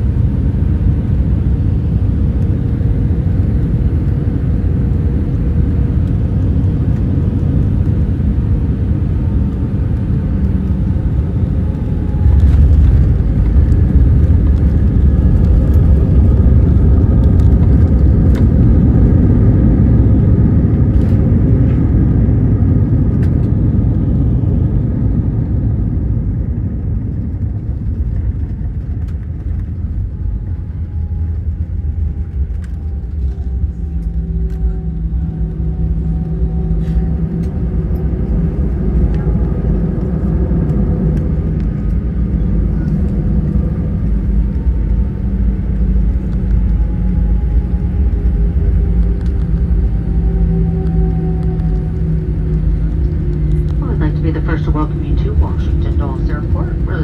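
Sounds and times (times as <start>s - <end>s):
airliner engine rumble: 0.0s - 57.0s.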